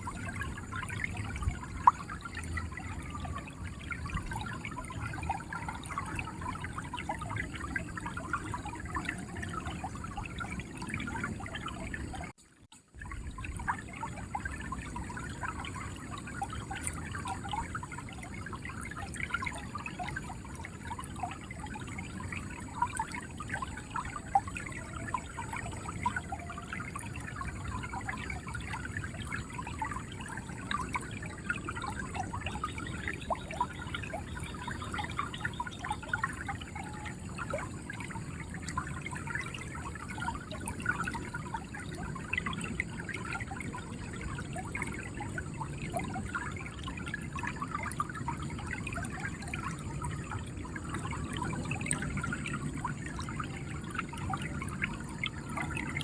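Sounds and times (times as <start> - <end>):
river water gurgling: 0.0 - 56.0.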